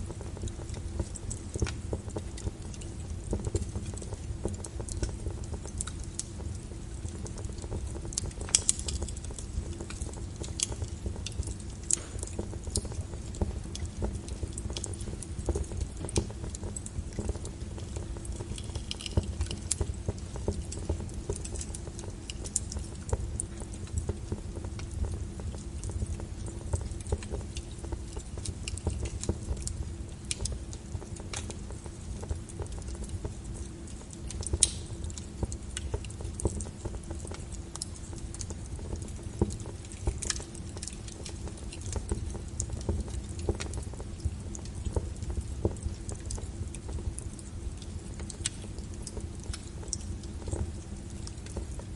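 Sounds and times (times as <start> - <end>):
fire crackling and popping: 0.0 - 51.9
fire rumbling in fireplace: 0.0 - 51.9.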